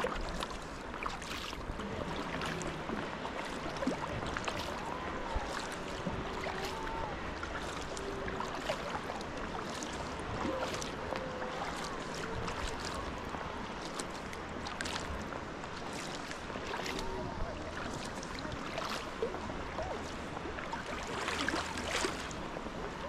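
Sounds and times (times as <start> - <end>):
paddle splashing and dripping: 0.0 - 23.0
water wash: 0.0 - 23.0
wind: 0.0 - 23.0.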